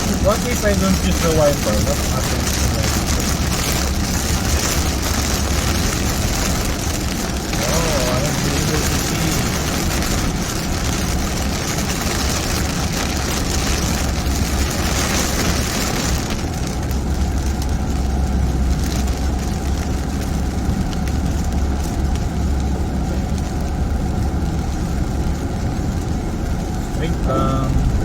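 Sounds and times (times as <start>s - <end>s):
heavy rain on a car: 0.0s - 28.0s
low engine and road rumble: 0.0s - 28.0s.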